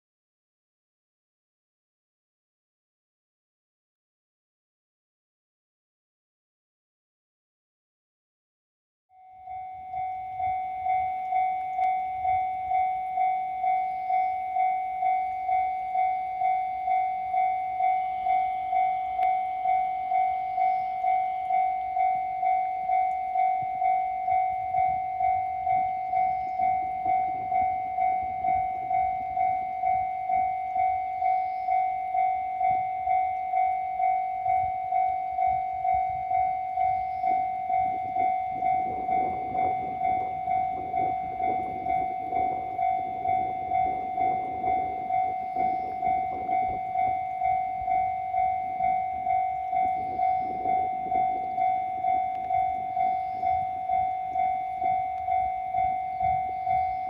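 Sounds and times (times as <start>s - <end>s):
level crossing warning bell: 9.1s - 57.0s.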